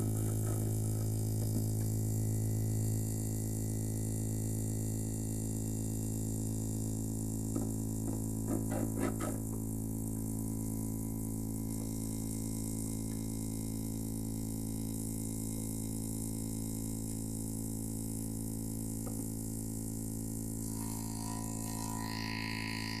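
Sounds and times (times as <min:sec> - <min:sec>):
buzzing hum from loudspeakers: 0:00.0 - 0:23.0.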